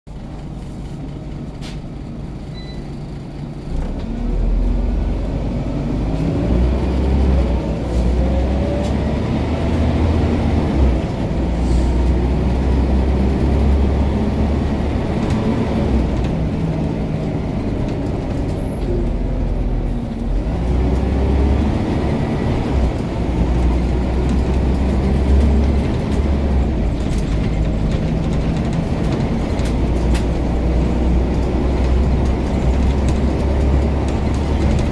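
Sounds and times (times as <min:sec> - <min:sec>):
bus diesel engine accelerating: 0:00.1 - 0:34.9.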